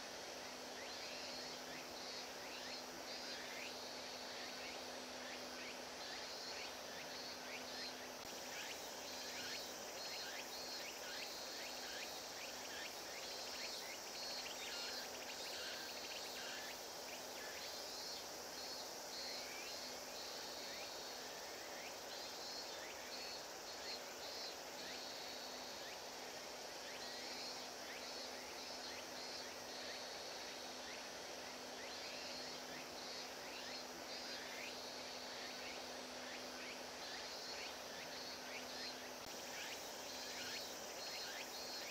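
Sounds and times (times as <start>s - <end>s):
insect chorus buzzing: 0.0s - 41.9s
pulsed insect trills: 0.0s - 41.9s.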